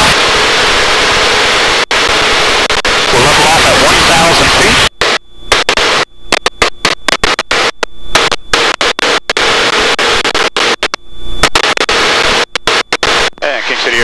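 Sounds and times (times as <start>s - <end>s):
crackling radio static hiss: 0.0s - 14.0s.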